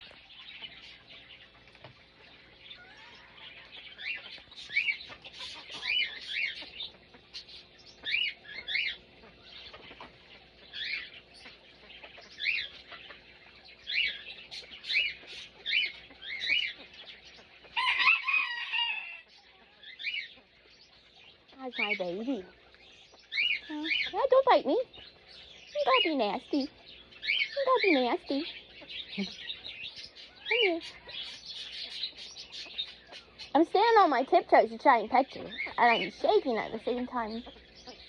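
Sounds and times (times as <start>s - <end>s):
bird chirping calls: 0.0s - 38.0s.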